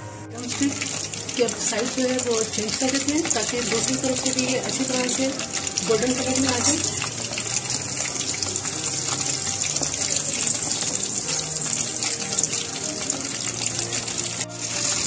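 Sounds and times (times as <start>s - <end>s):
chicken deep-frying in oil: 0.4s - 15.0s.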